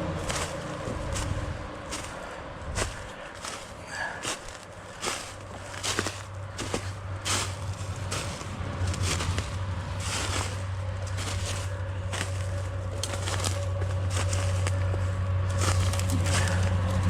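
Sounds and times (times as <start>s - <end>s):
footsteps through brush and gravel: 0.0s - 17.0s
vehicle engine rumble: 0.0s - 17.0s.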